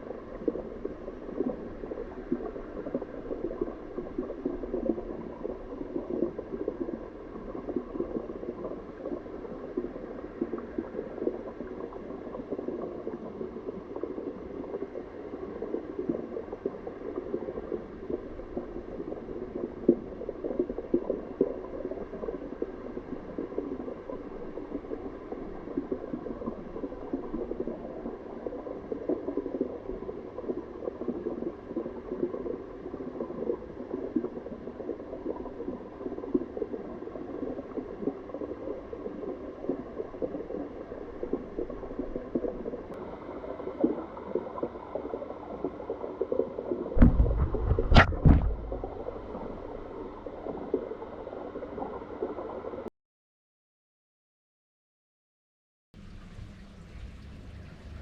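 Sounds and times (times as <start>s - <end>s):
crackle of small pops: 0.0s - 52.9s
water bubbling and gurgling: 0.0s - 52.9s.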